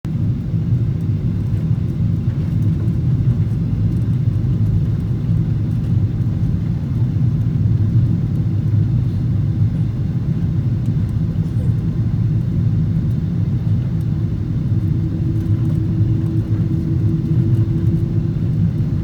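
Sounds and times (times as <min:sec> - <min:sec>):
airliner cabin rumble: 0:00.1 - 0:19.0.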